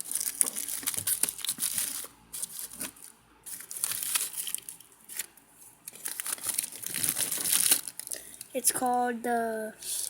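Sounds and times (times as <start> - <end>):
crinkly packaging crackling: 0.0 - 8.7.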